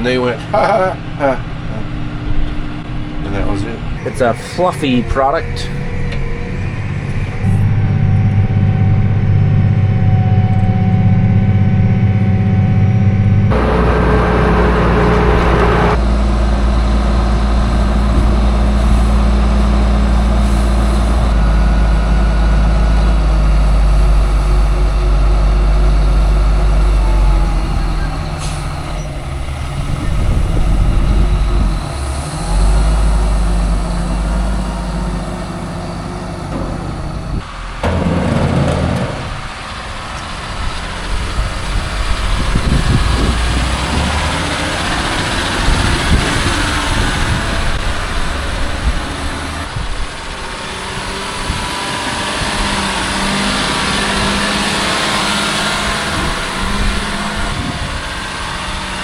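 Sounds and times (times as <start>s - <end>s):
heavy farm machinery engine: 0.0s - 59.0s.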